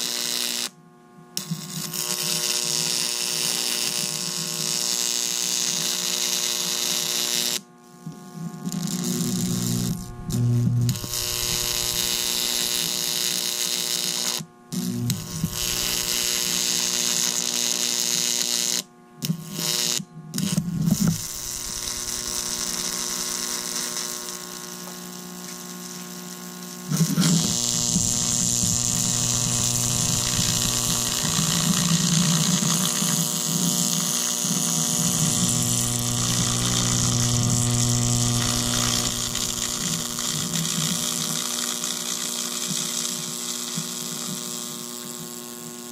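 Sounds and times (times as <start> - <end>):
electric arc buzzing: 1.4 - 7.6, 8.2 - 45.8.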